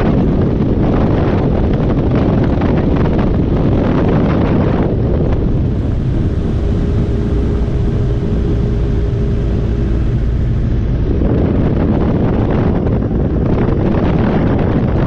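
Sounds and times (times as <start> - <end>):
helicopter rotor and engine rumble: 0.0 - 15.0
wind buffeting microphone: 0.0 - 15.0.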